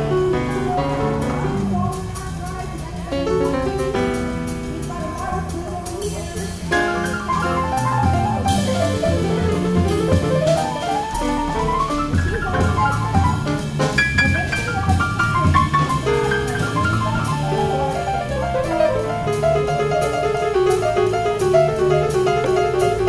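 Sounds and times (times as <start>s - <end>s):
drums: 0.0s - 23.0s
piano: 0.0s - 23.0s.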